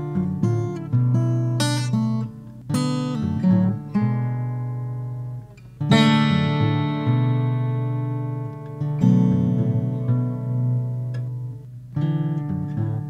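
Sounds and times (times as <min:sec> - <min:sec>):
plucked string chords: 0:00.0 - 0:13.0.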